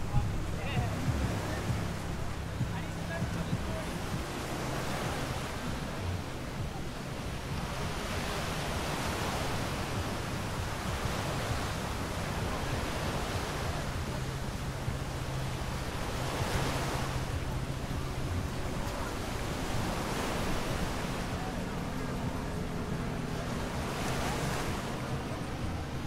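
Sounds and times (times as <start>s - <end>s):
small waves breaking on shore: 0.0s - 26.0s.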